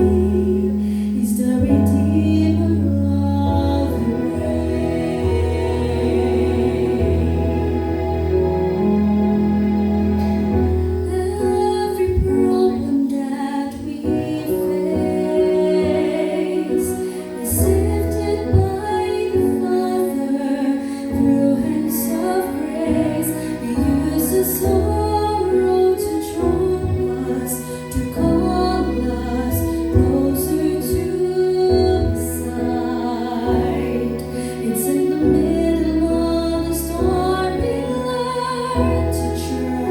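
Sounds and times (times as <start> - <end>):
woman singing: 0.0 - 7.1, 11.0 - 39.9
instrumental accompaniment: 0.0 - 39.9.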